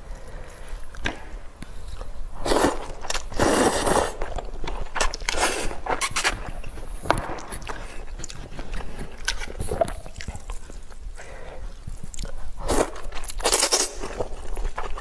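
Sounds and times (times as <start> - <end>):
chewing sounds: 1.8 - 15.0.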